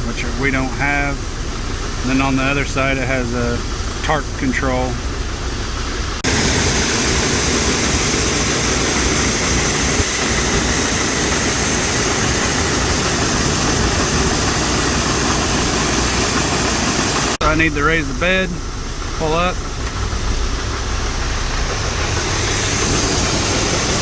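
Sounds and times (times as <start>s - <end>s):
engine idling: 0.0s - 24.0s
loud engine and machinery rush: 0.0s - 24.0s.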